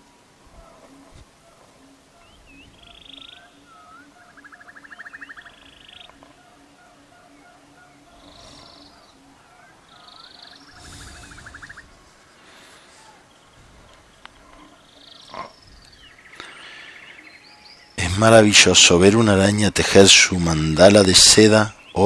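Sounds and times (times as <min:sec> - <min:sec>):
low pulsing: 0:00.0 - 0:18.2
birds chirping and trilling: 0:00.0 - 0:22.0.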